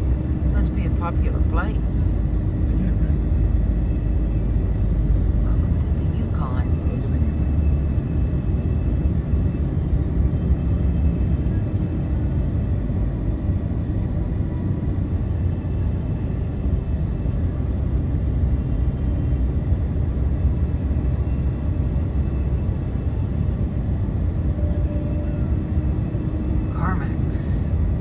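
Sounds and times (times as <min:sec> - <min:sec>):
vehicle engine and tyre noise: 0:00.0 - 0:28.0.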